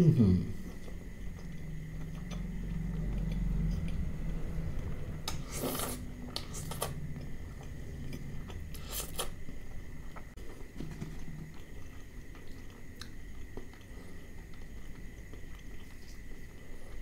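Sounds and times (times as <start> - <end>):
low chewing: 0.6 - 17.0.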